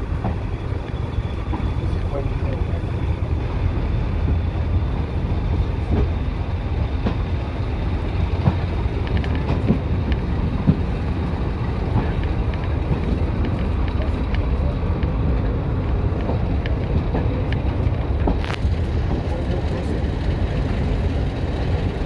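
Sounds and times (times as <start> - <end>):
diesel train rumbling: 0.0 - 22.0.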